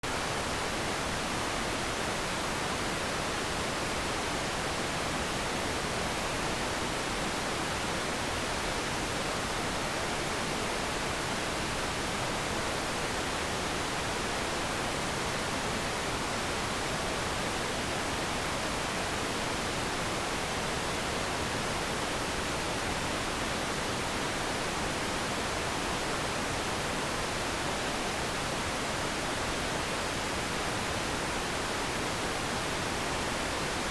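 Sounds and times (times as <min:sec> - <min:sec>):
television static hiss: 0:00.0 - 0:33.9.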